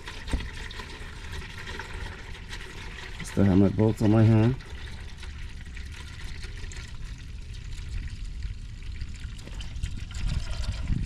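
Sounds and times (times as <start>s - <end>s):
oil pouring into a pan: 0.0s - 11.0s.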